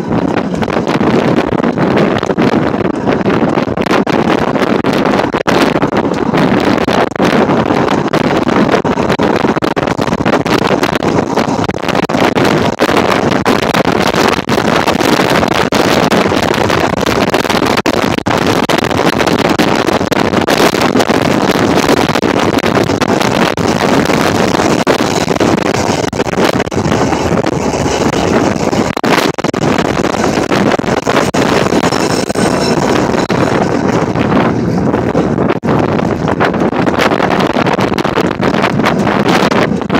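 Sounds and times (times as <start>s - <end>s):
tram running noise: 0.0s - 39.9s
wind rushing on microphone: 0.0s - 39.9s.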